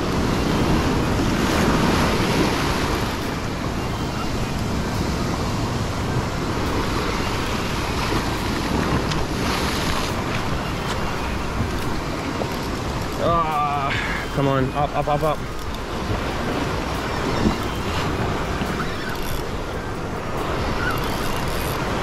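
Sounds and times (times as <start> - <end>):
ocean surf breaking over rocks: 0.0 - 22.0
wind buffeting microphone: 0.0 - 22.0.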